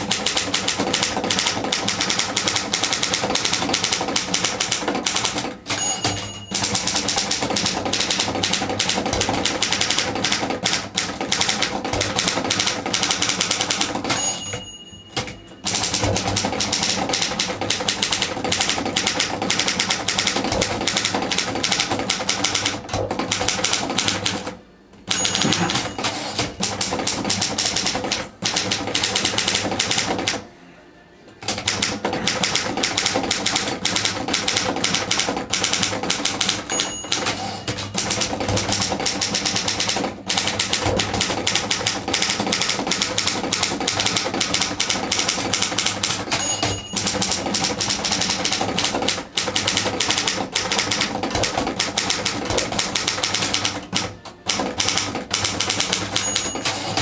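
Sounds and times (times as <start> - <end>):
typewriter keystrokes clacking: 0.0 - 14.6, 15.2 - 30.4, 31.4 - 57.0
typewriter margin bell: 0.2 - 24.3, 25.1 - 30.3, 31.7 - 57.0.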